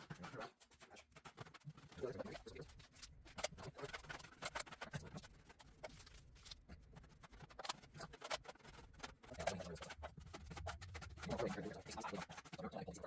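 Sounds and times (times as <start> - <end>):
hand tools clicking and scraping: 0.0 - 13.0.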